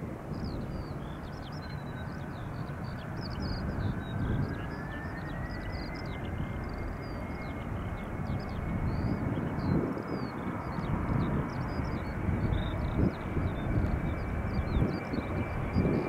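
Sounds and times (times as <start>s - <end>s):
jet engines rumbling and whining: 0.0s - 16.0s
small birds chirping: 0.3s - 16.0s.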